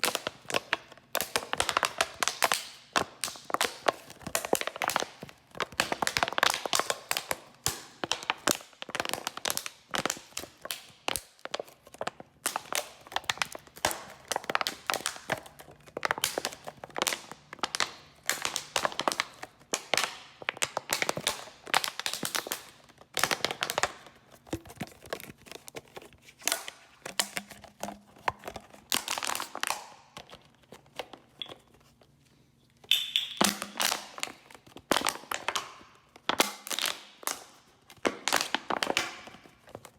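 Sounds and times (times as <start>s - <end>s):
plastic bottle crumpling: 0.0s - 39.9s.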